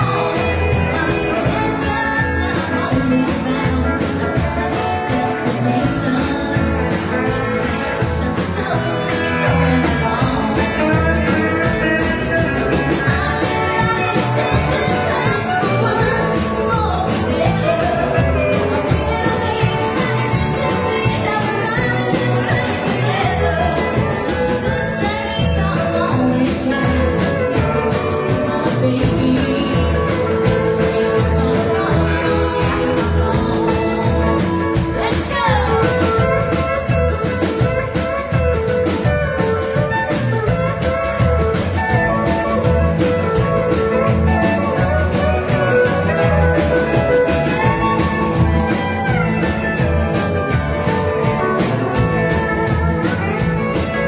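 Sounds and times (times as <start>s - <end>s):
country band playing: 0.0s - 54.0s
steel guitar glide: 0.0s - 54.0s.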